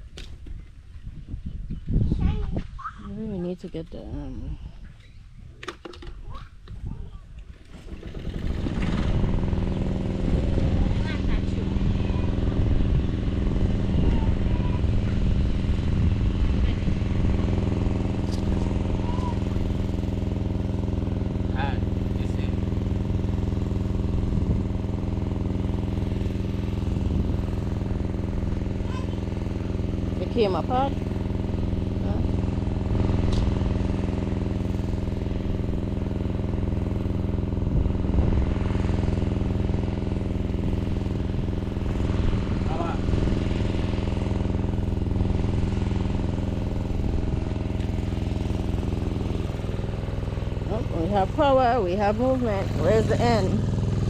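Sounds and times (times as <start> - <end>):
generator engine running: 7.5 - 54.0.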